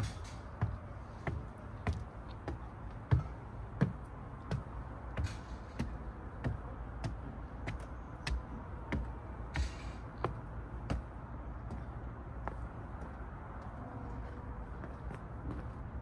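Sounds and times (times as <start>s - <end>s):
footsteps walking: 0.0s - 16.0s.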